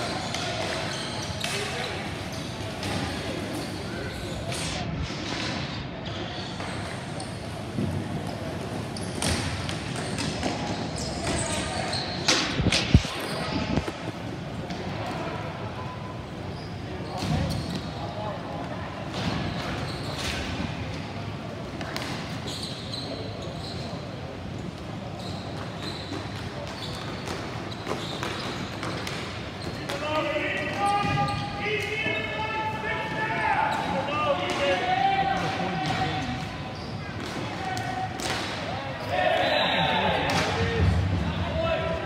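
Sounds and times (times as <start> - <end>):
hockey sticks and ball clacking: 0.0 - 15.3, 19.1 - 21.1, 21.7 - 24.0, 24.7 - 32.2, 33.1 - 41.0
faint players' voices: 0.0 - 42.0.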